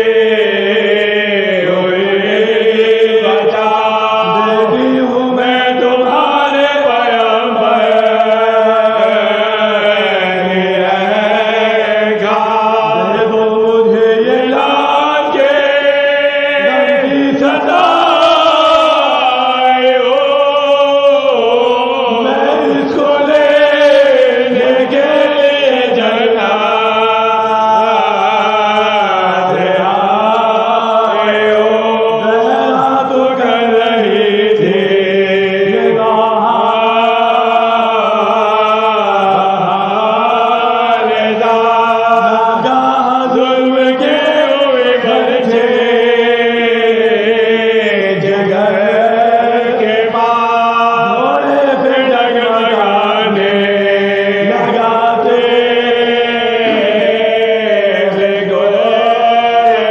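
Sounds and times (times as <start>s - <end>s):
group of men chanting: 0.0s - 59.9s.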